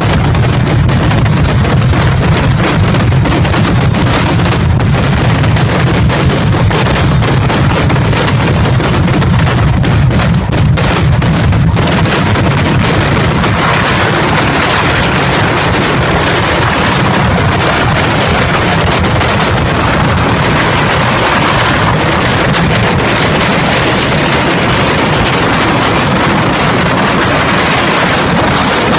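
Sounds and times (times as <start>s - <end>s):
deep rumble: 0.0s - 28.9s
firecrackers banging and crackling: 0.0s - 28.9s.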